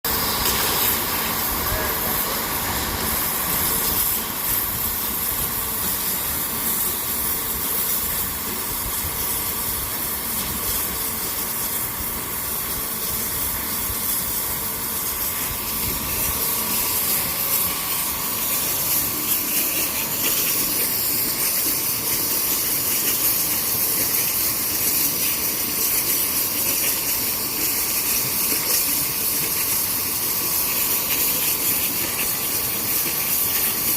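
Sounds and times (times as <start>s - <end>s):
machine grinding stone: 0.1s - 33.9s.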